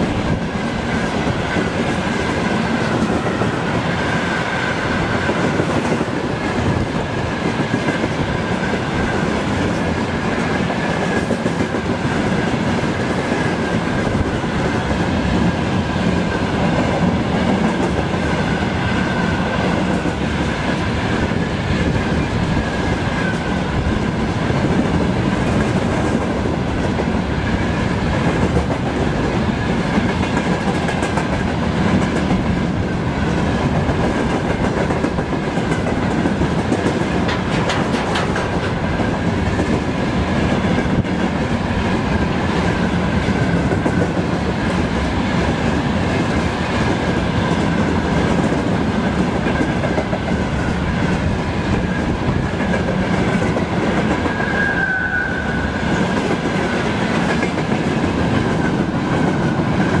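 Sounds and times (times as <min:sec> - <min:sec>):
freight train wheels rumbling: 0:00.0 - 1:00.0
high whine from train wheels: 0:00.0 - 1:00.0.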